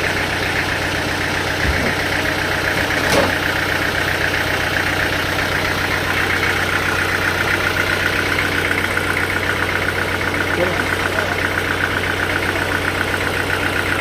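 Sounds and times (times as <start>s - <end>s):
sawmill machinery humming: 0.0s - 14.0s.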